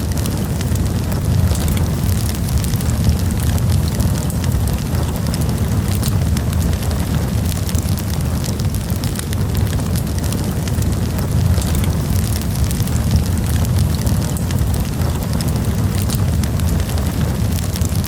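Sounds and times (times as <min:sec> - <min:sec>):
campfire crackling and popping: 0:00.0 - 0:18.0
fire low rumble: 0:00.0 - 0:18.0.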